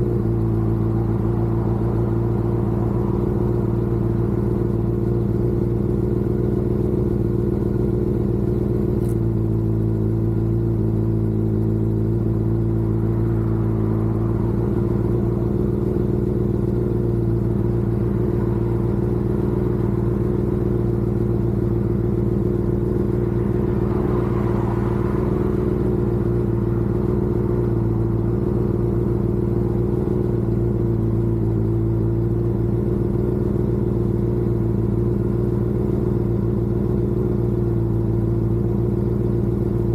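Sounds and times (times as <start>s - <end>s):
vehicle engine cruising: 0.0s - 39.9s.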